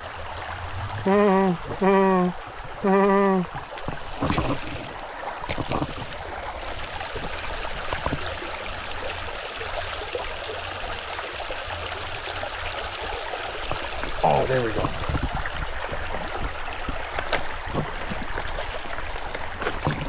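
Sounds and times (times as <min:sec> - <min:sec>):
creek water trickling: 0:00.0 - 0:20.0.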